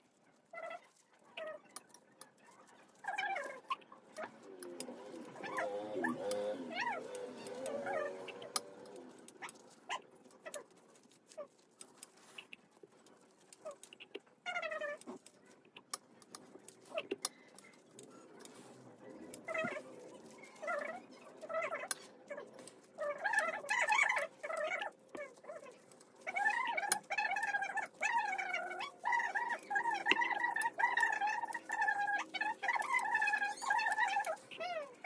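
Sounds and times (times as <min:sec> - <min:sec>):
foam strip clicking and rustling: 0:00.0 - 0:35.0
pet animal whining: 0:00.2 - 0:35.0.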